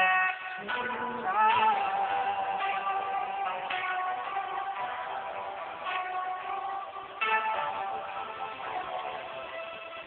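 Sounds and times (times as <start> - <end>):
slow instrumental ballad with guitar: 0.0 - 10.0.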